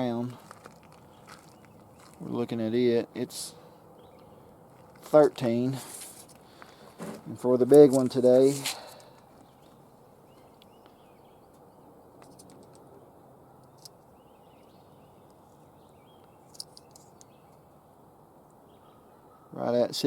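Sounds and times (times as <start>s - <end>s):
faint birds chirping: 0.0s - 20.0s
low steady hiss: 2.2s - 20.0s.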